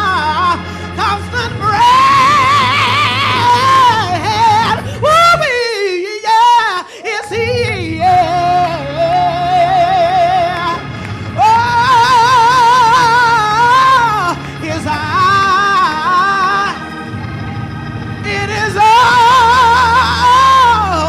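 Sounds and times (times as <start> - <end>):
woman singing gospel: 0.0 - 17.0, 18.2 - 21.0
organ chords and bass: 0.0 - 21.0.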